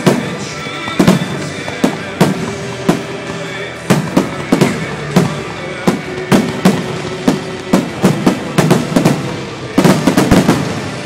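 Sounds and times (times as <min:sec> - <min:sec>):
fireworks bursting with echo: 0:00.0 - 0:11.0.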